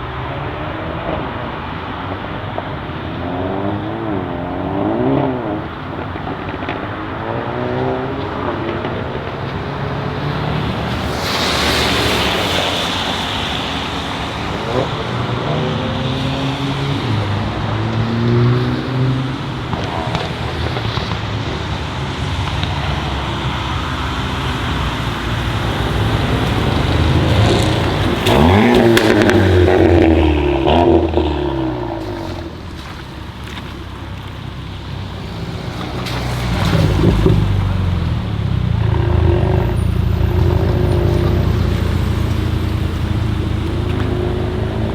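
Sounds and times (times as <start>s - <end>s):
sports car engines revving past: 0.0s - 44.9s
exhaust pops: 0.9s - 44.9s.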